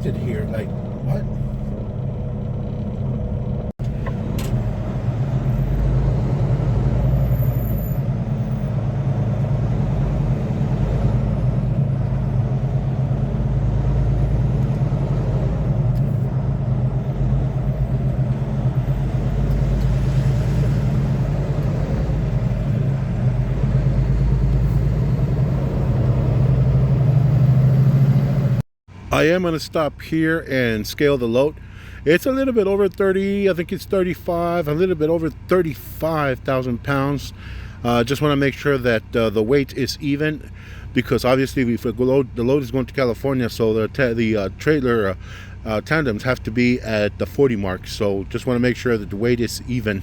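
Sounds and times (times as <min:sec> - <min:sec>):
road noise: 0:00.0 - 0:50.0
truck diesel engine running: 0:00.0 - 0:50.0.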